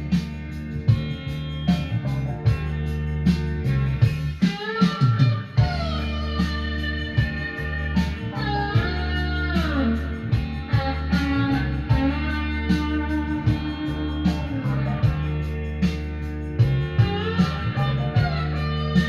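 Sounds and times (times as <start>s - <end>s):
rock music over loudspeakers: 0.0s - 19.0s.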